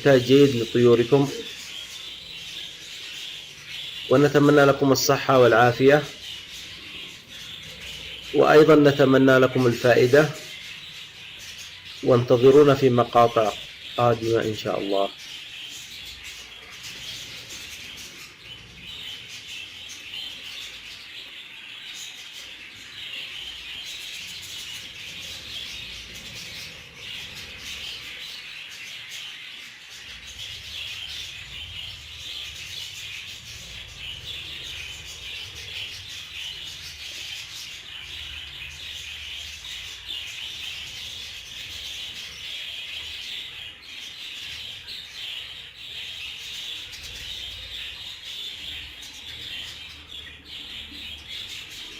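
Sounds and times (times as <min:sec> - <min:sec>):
budgerigars chattering: 0:00.0 - 0:51.9.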